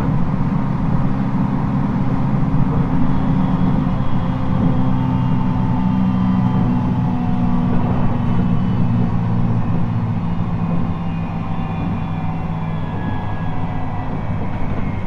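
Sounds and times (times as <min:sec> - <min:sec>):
electric train running drone: 0:00.0 - 0:15.0.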